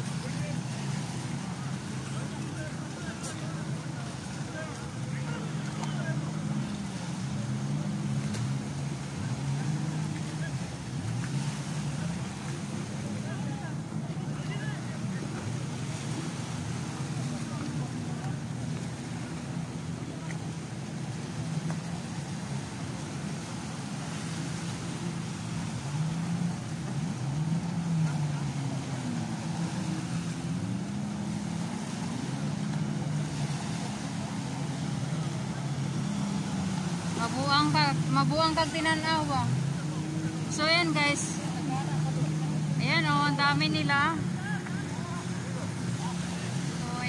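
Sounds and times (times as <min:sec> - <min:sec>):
jet ski engines drone: 0:00.0 - 0:47.0
water and wind noise: 0:00.0 - 0:47.0.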